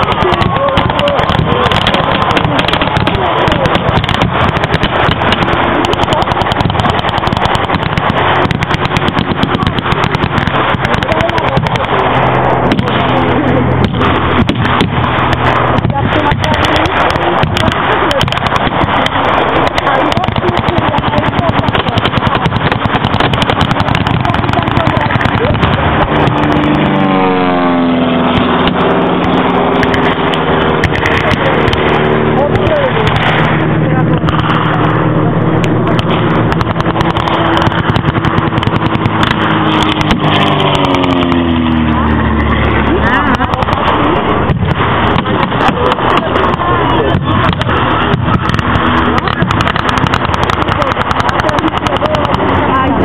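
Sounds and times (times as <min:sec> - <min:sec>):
blank small-arms fire: 0:00.0 - 0:53.0
engine running: 0:00.0 - 0:53.0
sharp cracks: 0:00.0 - 0:53.0.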